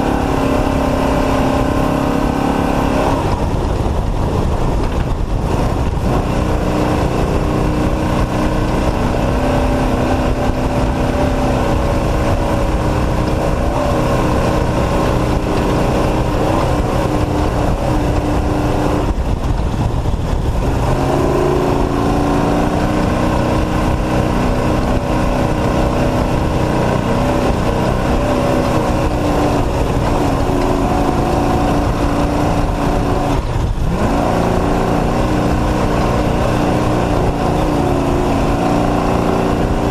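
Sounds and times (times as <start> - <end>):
truck engine running hard: 0.0 - 39.9.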